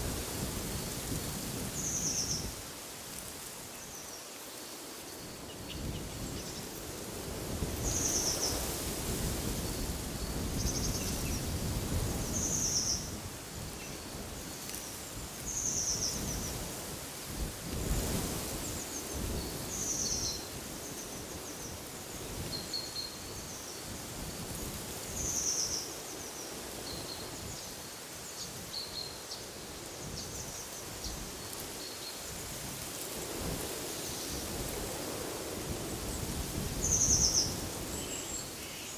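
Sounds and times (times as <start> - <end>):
low rumbling wind gusts: 0.0 - 3.5, 5.3 - 38.9
wind in trees: 0.0 - 38.9.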